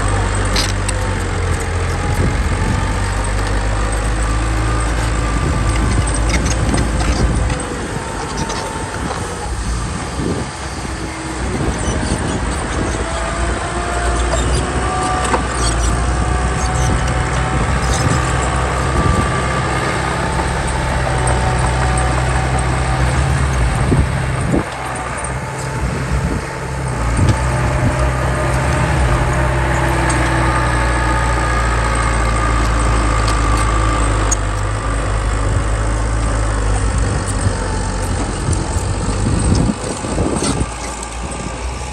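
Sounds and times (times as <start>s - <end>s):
diesel engine running: 0.0s - 41.9s
high whine: 0.0s - 41.9s.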